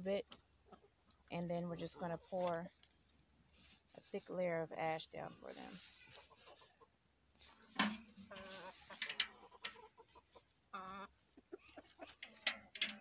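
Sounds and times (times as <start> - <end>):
hens clucking: 0.0 - 2.7, 4.4 - 13.0.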